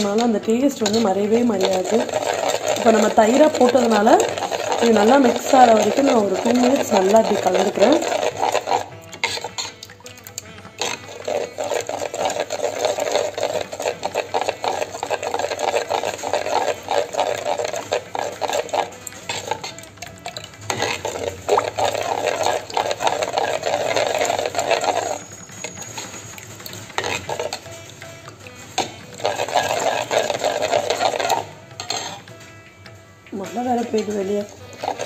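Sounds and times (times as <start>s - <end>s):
spoon stirring batter in bowl: 0.0s - 32.4s, 33.5s - 35.0s.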